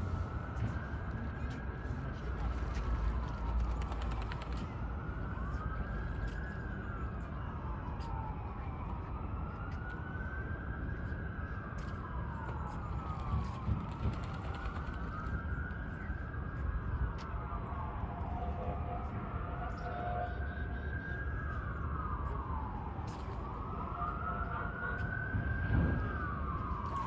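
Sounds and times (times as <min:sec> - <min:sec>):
emergency vehicle siren wailing: 0:00.0 - 0:27.0.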